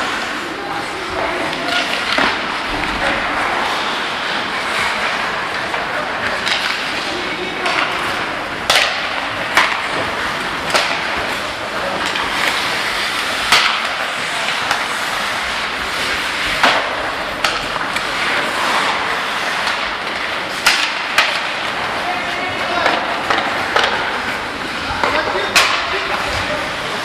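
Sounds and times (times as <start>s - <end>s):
skates scraping ice: 0.0s - 27.0s
sticks clacking on puck: 0.1s - 27.0s.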